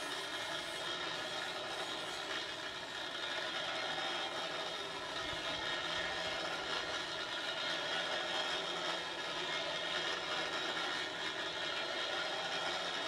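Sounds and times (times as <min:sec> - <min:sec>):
bicycle wheels whirring on rope: 0:00.0 - 0:13.0.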